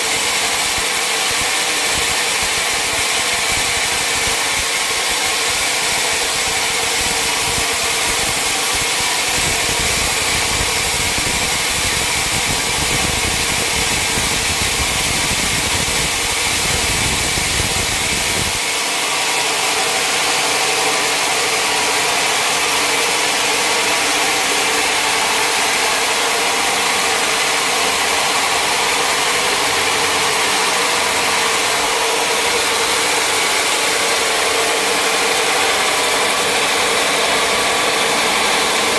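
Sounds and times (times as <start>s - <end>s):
sawmill machinery whine and hum: 0.0s - 38.9s.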